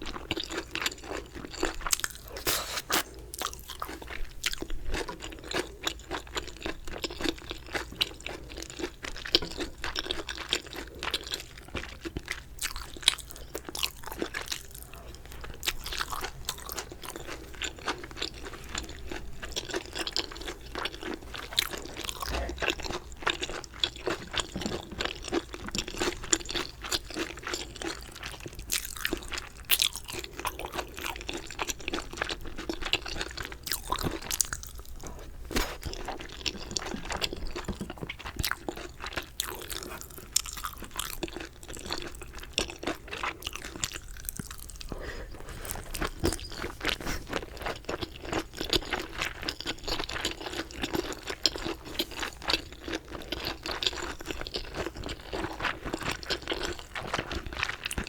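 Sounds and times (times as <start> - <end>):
crunching and chewing food: 0.0 - 58.0.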